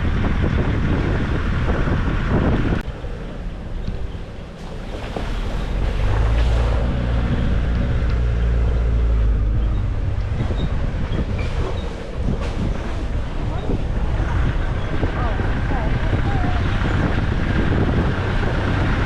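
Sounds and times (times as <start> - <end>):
pickup engine running under load: 0.0 - 19.0
wind buffeting microphone: 0.0 - 19.0.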